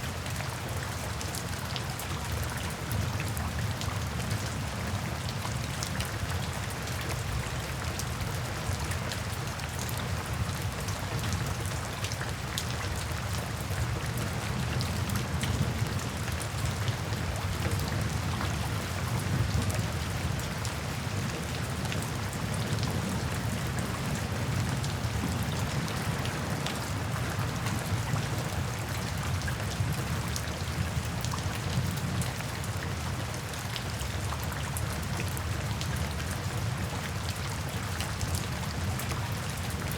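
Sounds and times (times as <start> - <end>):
rain falling into puddles: 0.0 - 39.9.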